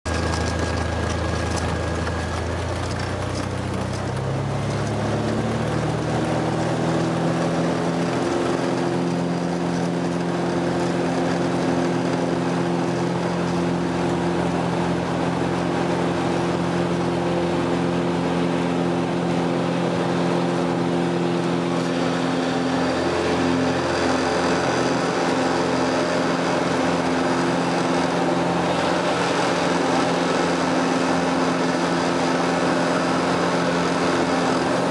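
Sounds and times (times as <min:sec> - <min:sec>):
small airplane engine and propeller: 0:00.1 - 0:34.9.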